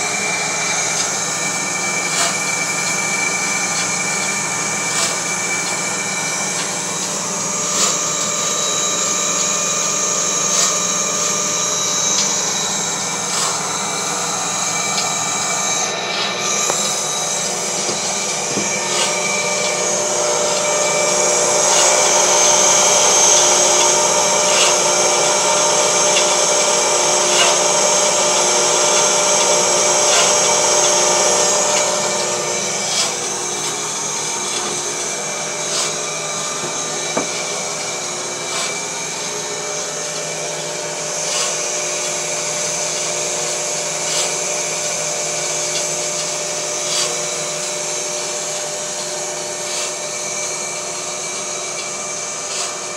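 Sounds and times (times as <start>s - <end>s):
bandsaw whirring hum: 0.0s - 52.9s.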